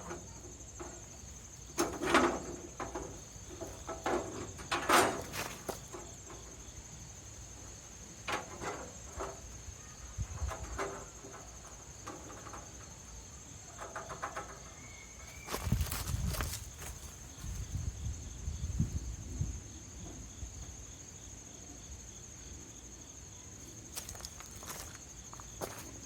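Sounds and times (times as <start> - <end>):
high insect trill: 0.0 - 26.0.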